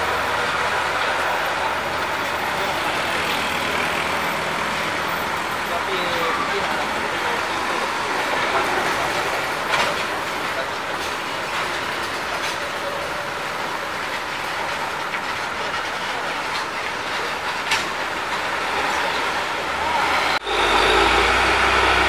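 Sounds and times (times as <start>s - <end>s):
heavy trucks passing: 0.0s - 22.0s.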